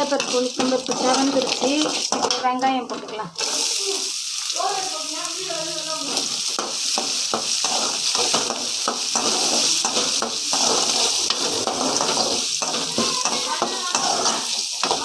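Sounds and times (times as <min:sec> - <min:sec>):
metal ladle scraping pan: 0:00.0 - 0:03.7, 0:06.2 - 0:15.0
onions sizzling in hot oil: 0:00.0 - 0:15.0.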